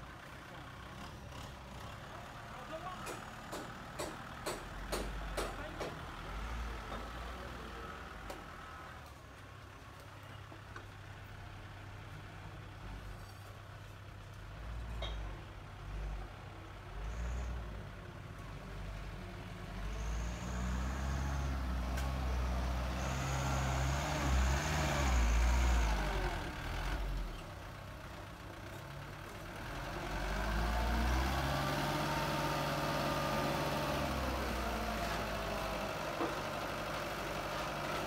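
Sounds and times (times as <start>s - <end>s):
diesel truck engine revving: 0.6s - 8.9s, 15.8s - 38.0s.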